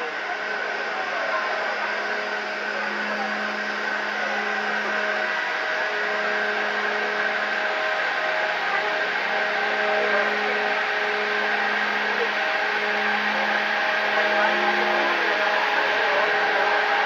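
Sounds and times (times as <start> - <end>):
elevator machinery humming: 0.0 - 17.0
noisy wash: 0.0 - 17.0.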